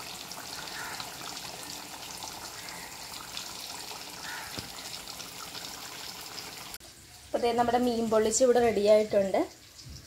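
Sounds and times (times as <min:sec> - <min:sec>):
curry bubbling in a pot: 0:00.0 - 0:10.0.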